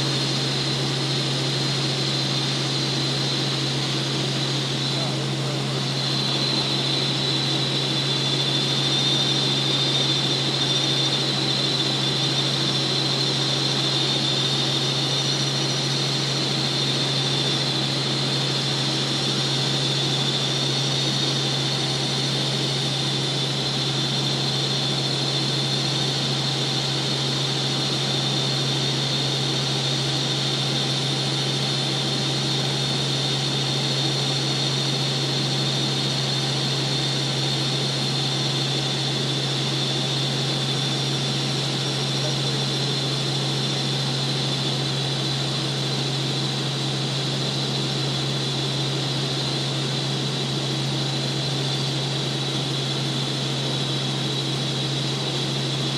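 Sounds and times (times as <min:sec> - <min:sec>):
helicopter rotor and turbine drone: 0:00.0 - 0:55.9
high whine: 0:00.0 - 0:55.9.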